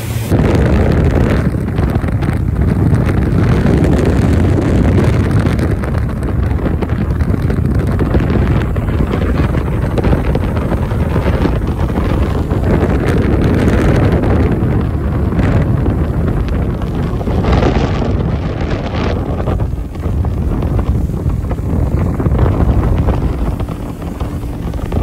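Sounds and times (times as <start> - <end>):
motorboat engine rumble: 0.0 - 25.0
wind buffeting microphone: 0.0 - 25.0.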